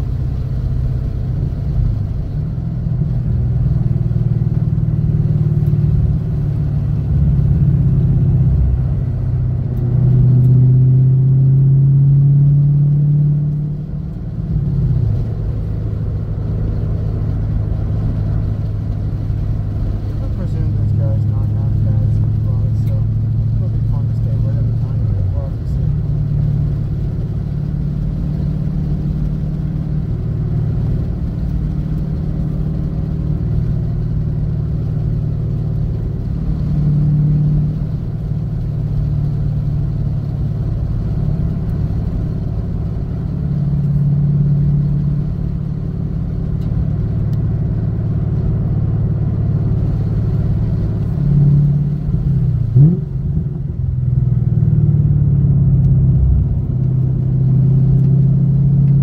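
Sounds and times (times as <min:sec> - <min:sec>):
car engine running: 0:00.0 - 0:59.0
engine revs rising on downshift: 0:00.0 - 0:59.0.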